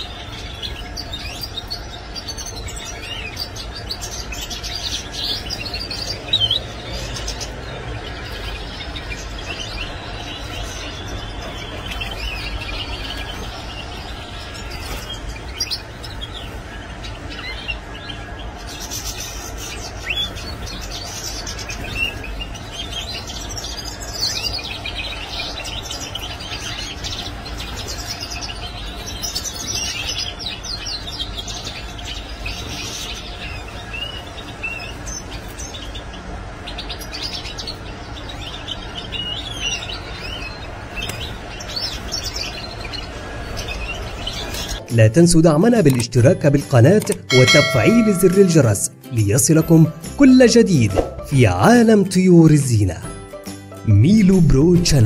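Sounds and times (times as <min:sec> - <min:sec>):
finches chirping and twittering: 0:00.0 - 0:55.0.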